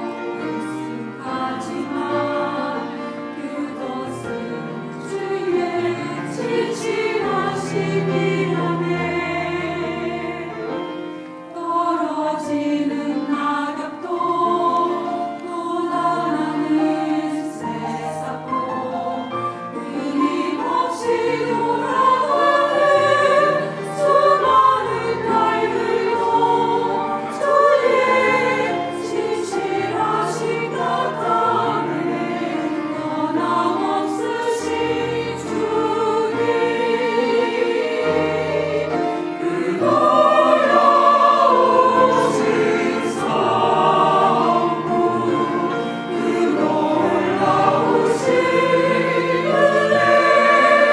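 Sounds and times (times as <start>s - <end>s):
church choir singing: 0.0s - 50.9s.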